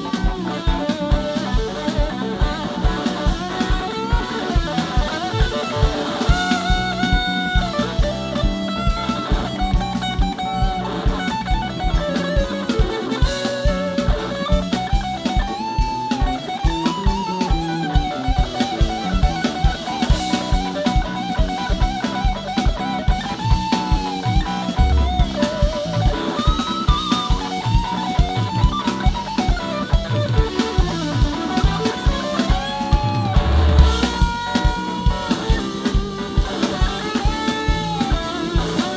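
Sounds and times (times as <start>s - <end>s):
bass guitar: 0.0s - 38.9s
drum kit beat: 0.0s - 38.9s
electric guitar lead: 0.0s - 38.9s.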